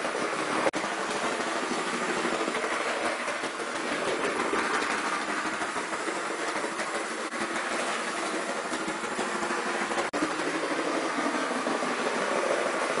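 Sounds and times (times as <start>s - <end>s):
wheels clicking over rail joints: 0.0s - 13.0s.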